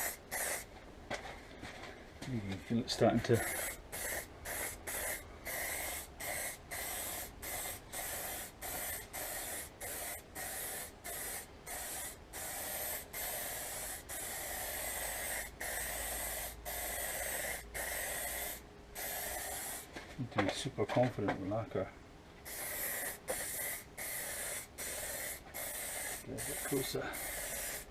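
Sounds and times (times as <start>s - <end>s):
aerosol spray can hissing: 0.0s - 0.7s, 3.3s - 19.9s, 22.5s - 27.9s.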